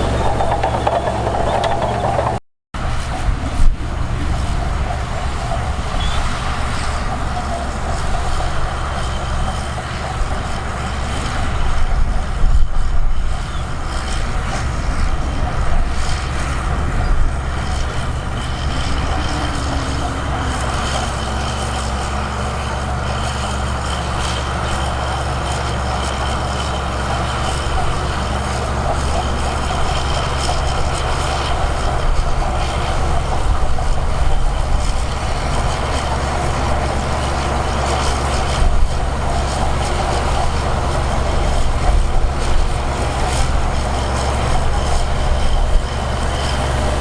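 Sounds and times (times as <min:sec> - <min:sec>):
heavy machinery diesel engine: 0:00.0 - 0:47.0.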